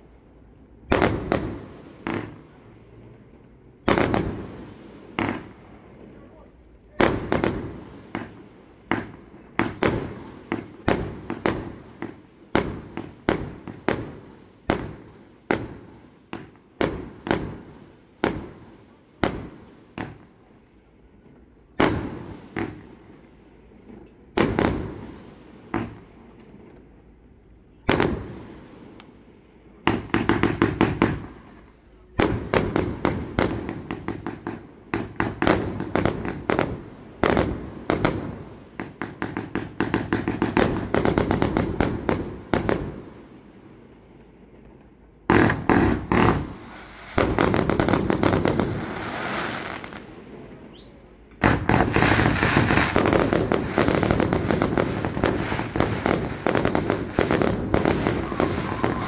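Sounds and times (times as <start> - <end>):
fireworks bangs: 0.0 - 20.4, 21.2 - 26.9, 27.9 - 29.0, 29.8 - 43.6, 44.2 - 59.0
crackling firework volley: 0.0 - 59.0.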